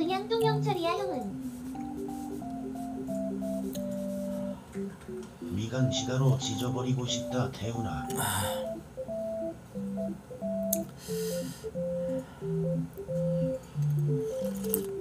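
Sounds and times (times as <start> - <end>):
electronic tone melody: 1.4 - 15.0.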